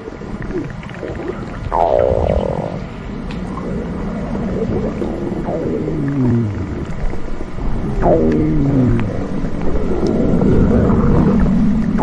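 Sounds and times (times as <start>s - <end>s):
stomach growling: 0.0s - 12.0s.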